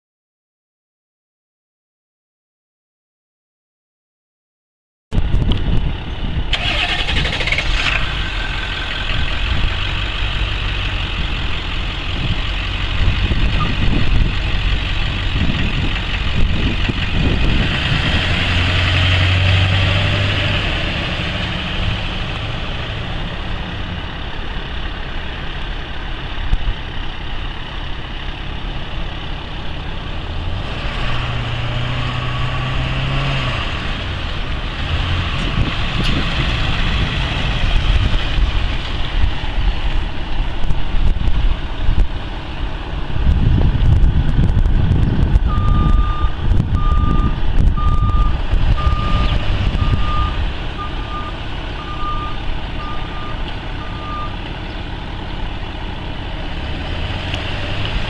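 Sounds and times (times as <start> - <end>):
diesel truck engine revving: 5.3 - 58.0.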